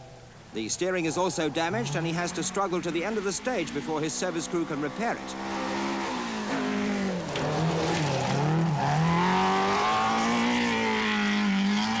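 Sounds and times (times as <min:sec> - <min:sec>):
rally car engine: 0:00.5 - 0:12.0.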